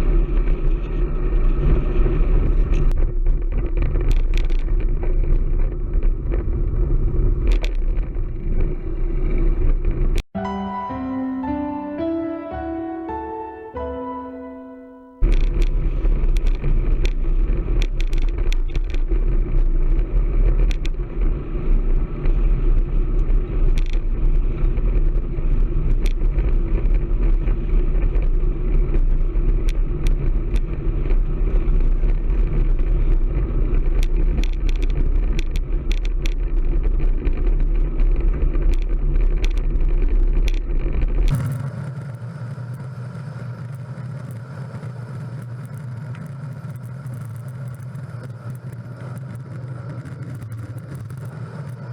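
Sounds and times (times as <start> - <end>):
sharp clicks and rattles: 1.6 - 10.3, 15.2 - 21.4, 22.2 - 51.9.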